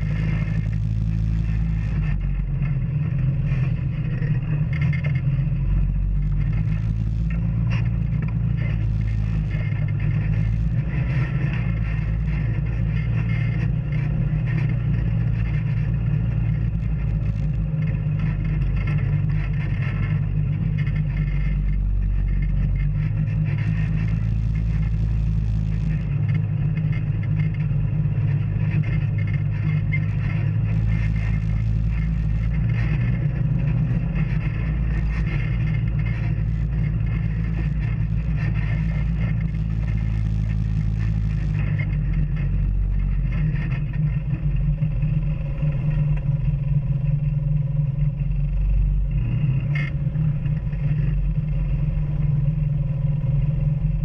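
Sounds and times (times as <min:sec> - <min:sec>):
light rattling and scraping: 0:00.0 - 0:54.0
off-road vehicle engine running: 0:00.0 - 0:54.0.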